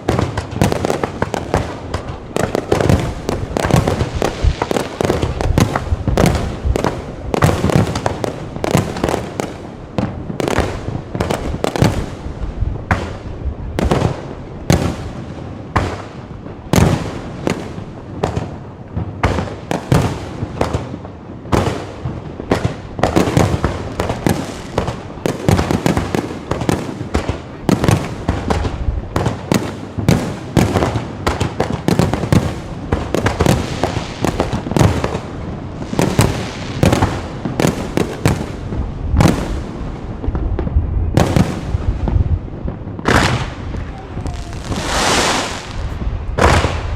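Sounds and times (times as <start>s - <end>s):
fireworks sharp bangs: 0.0s - 46.9s.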